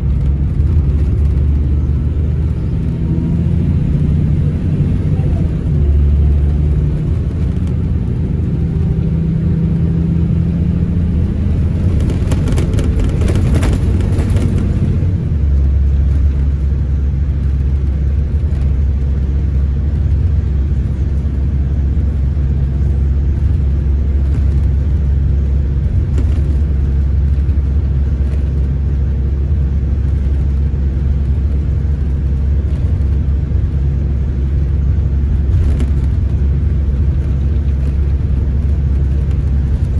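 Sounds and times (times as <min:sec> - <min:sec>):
low engine drone: 0:00.0 - 0:39.9
road and tyre noise: 0:00.0 - 0:39.9.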